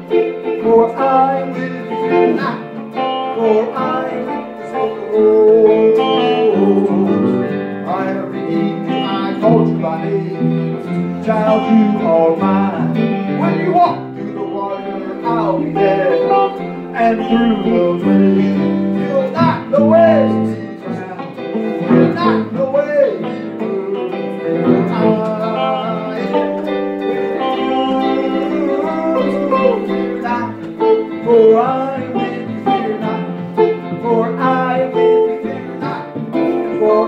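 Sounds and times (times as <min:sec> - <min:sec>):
electric guitar: 0:00.0 - 0:37.0
person singing a hymn: 0:00.0 - 0:37.0.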